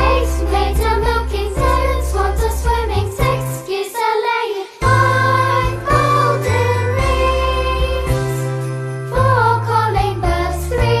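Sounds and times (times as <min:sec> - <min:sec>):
children's song with singing: 0:00.0 - 0:11.0.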